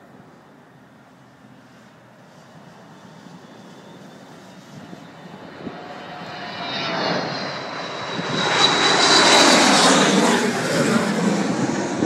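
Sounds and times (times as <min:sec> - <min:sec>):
high jet whine: 0:00.0 - 0:12.0
jet engines rumbling: 0:00.0 - 0:12.0.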